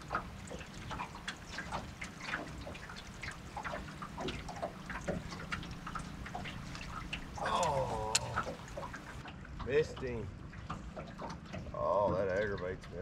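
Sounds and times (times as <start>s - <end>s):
low steady rumble: 0.0s - 11.0s
waves slapping against boat hull: 0.0s - 13.0s.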